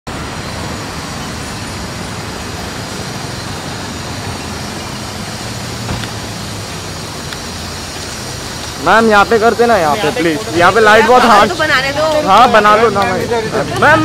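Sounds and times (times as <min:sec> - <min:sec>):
street traffic hum: 0:00.0 - 0:14.0.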